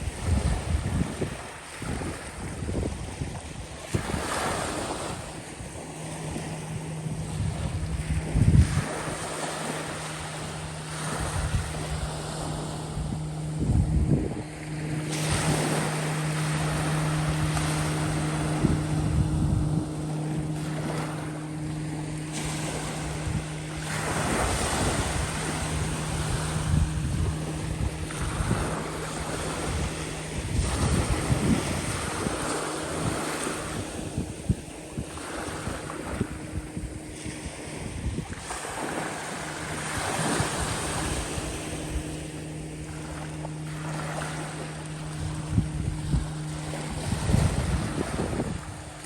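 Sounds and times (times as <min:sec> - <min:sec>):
low engine hum: 0:00.0 - 0:49.0
waves washing on shore: 0:00.0 - 0:49.0
wind on microphone: 0:00.0 - 0:49.0.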